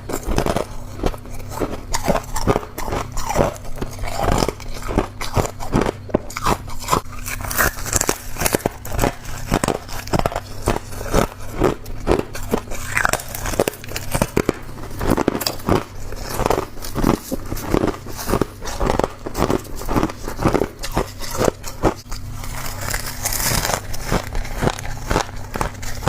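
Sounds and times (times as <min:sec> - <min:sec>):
person chewing crunchy frost: 0:00.0 - 0:26.0.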